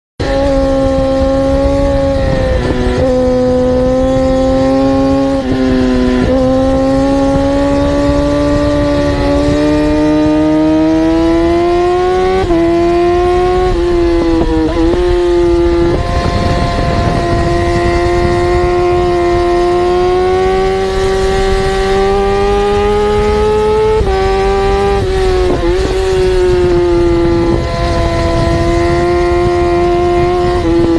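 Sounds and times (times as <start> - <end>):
motorbike engine accelerating: 0.2 - 30.9
second motorbike engine: 0.2 - 30.9.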